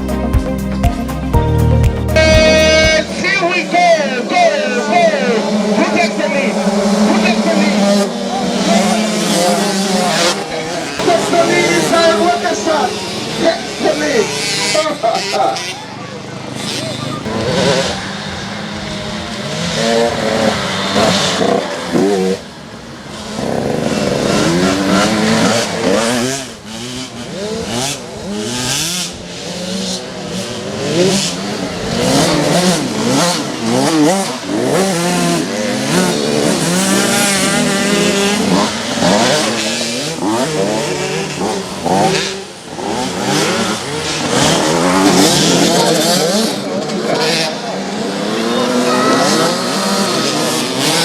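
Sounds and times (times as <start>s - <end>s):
motocross bikes revving: 0.0s - 51.0s.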